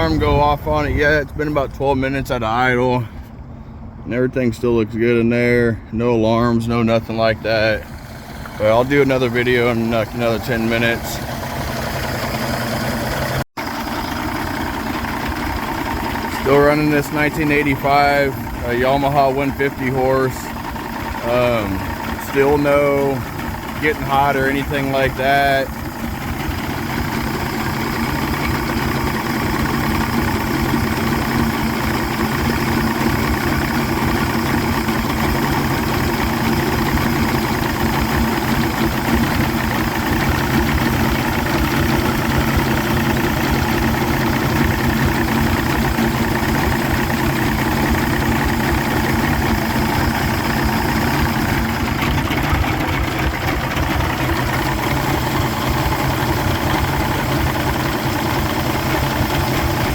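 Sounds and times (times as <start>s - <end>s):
outboard engine idling: 0.0s - 4.0s, 5.1s - 59.9s.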